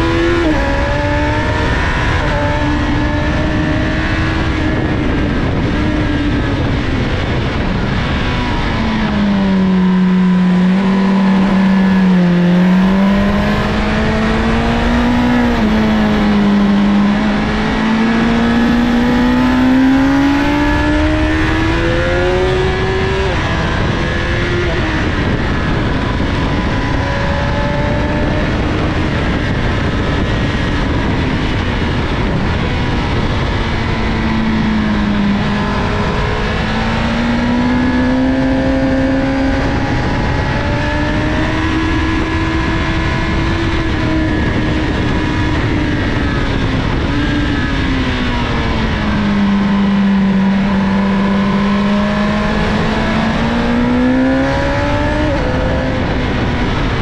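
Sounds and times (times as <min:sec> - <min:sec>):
motorcycle engine at high revs: 0:00.0 - 0:57.0
wind and road noise: 0:00.0 - 0:57.0.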